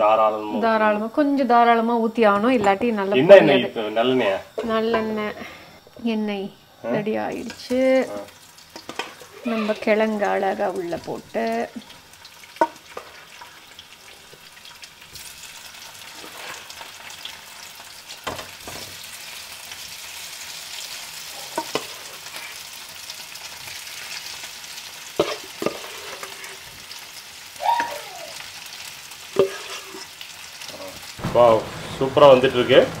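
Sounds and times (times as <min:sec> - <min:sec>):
potatoes sizzling in oil: 0:00.0 - 0:33.0.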